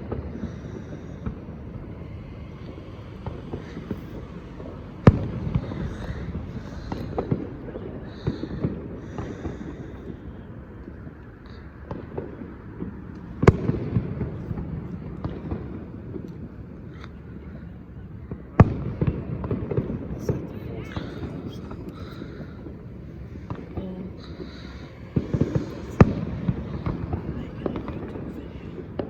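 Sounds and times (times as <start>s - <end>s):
fireworks bangs: 0.0s - 29.0s
rumbling echo: 0.0s - 29.0s
firework pops and crackles: 2.6s - 17.4s, 18.3s - 22.8s, 23.4s - 29.0s.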